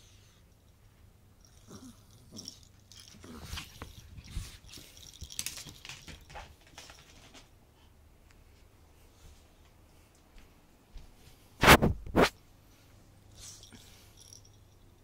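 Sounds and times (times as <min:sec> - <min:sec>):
dog playing and scampering on floor: 0:00.8 - 0:14.7.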